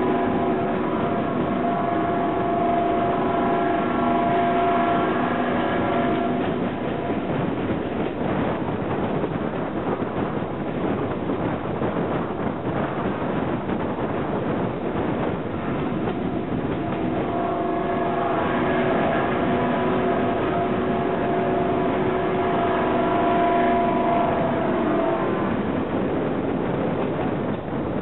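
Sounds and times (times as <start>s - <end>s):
locomotive droning note: 0.0s - 11.2s, 12.0s - 28.0s
train running noise: 0.0s - 28.0s.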